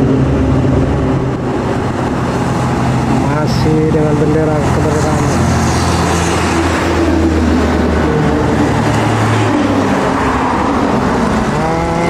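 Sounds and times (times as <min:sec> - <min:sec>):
diesel engines droning: 0:00.0 - 0:12.0
tyre and road noise: 0:00.0 - 0:12.0.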